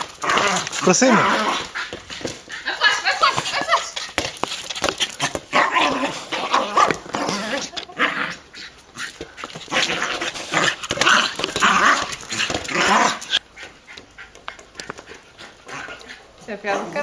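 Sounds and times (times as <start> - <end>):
small dog growling: 0.0 - 3.4, 4.0 - 13.4, 15.4 - 17.0.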